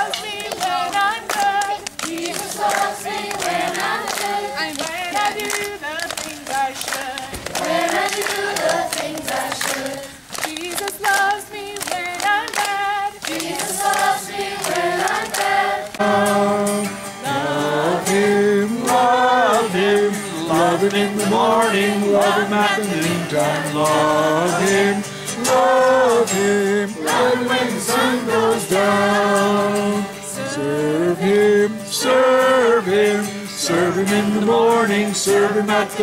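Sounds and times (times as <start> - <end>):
hand clapping: 0.0 - 30.2
group of people singing: 0.0 - 36.0.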